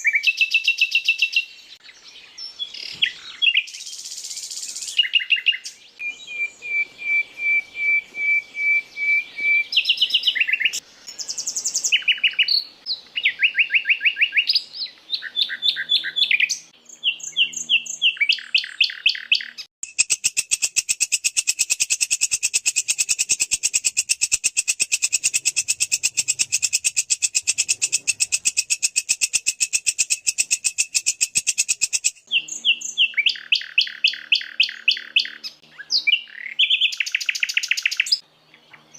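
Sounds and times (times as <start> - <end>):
songbird whistled notes: 0.0 - 20.1, 25.1 - 38.9
songbird chirping phrases: 0.0 - 20.5, 21.4 - 38.9
very fast bird trill: 2.6 - 38.2.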